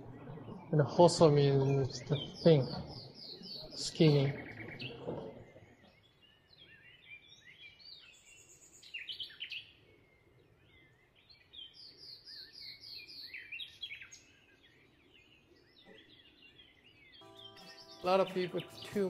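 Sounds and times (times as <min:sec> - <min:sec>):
small birds chirping and singing: 0:00.0 - 0:19.0.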